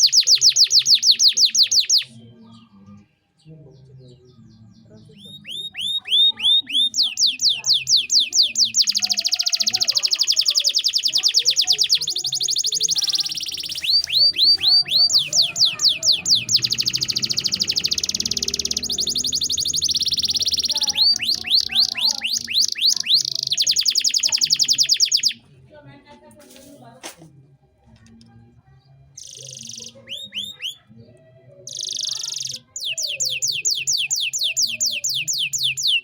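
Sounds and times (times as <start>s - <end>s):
canary singing with trills: 0.0s - 25.6s, 27.7s - 36.0s.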